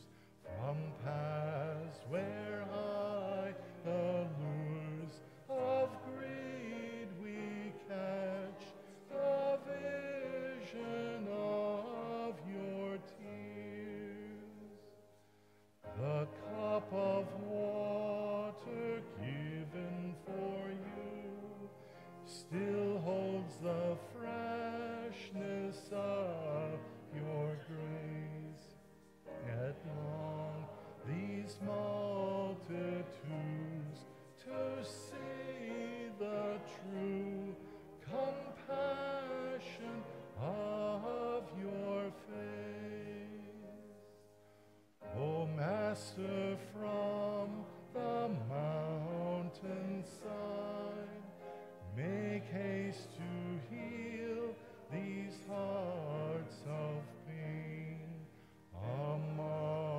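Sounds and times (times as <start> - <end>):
congregation singing a hymn: 0.0 - 15.0, 15.8 - 44.3, 45.0 - 59.9.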